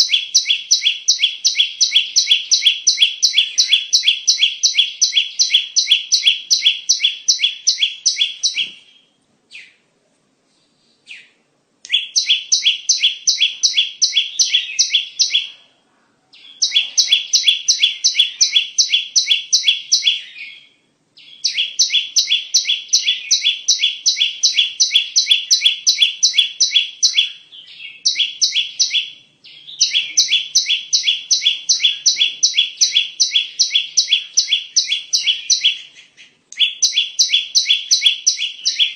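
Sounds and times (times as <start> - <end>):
bird high chipping calls: 0.0 - 9.8, 11.1 - 15.6, 16.4 - 38.9.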